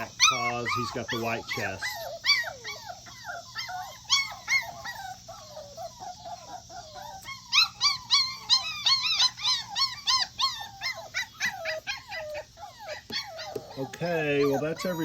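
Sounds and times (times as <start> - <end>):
puppies whining and yelping: 0.0 - 15.0.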